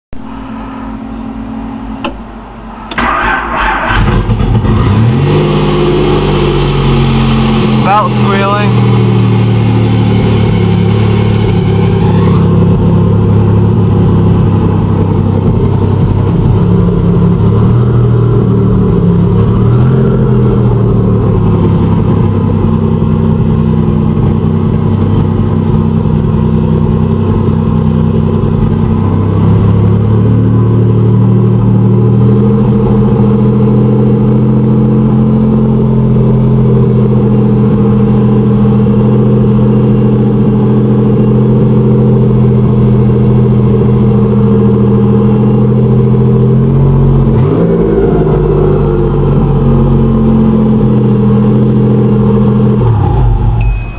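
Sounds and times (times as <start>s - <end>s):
car engine idling: 0.1s - 53.9s.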